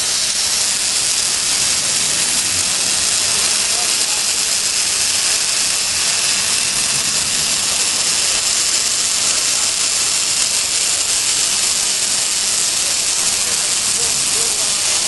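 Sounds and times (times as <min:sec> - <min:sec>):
welding arc hissing: 0:00.0 - 0:15.0.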